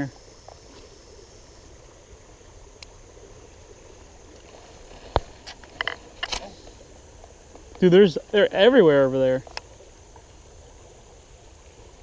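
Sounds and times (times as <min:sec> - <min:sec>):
high insect drone: 0:00.0 - 0:12.0
shallow flowing water: 0:00.0 - 0:12.0.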